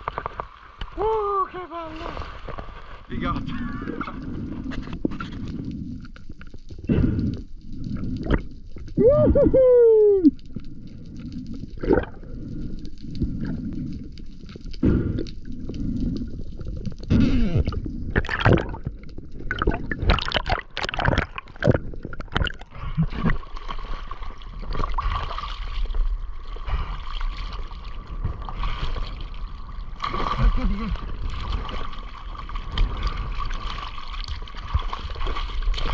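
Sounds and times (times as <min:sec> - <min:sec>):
water gurgling and sloshing: 0:00.0 - 0:09.4, 0:10.3 - 0:35.9
bubbling: 0:00.0 - 0:35.9.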